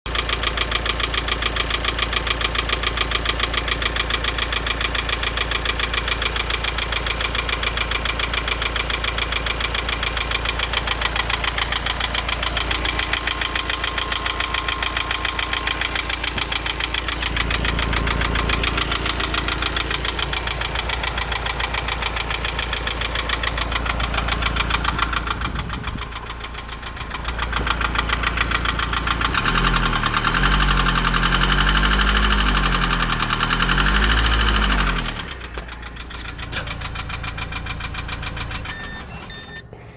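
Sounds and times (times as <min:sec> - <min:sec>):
diesel engine knocking: 0:00.1 - 0:39.9.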